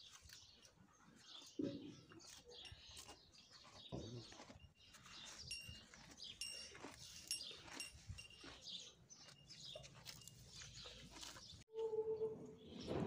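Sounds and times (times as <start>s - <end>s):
calf chewing fodder: 0.0s - 12.0s.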